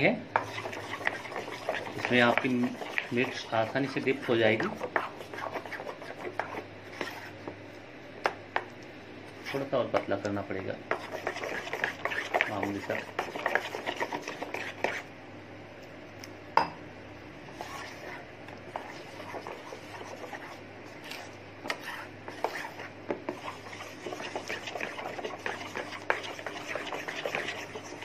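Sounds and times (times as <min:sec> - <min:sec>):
spoon beating batter in bowl: 0:00.0 - 0:07.6, 0:08.2 - 0:15.1, 0:17.5 - 0:28.0.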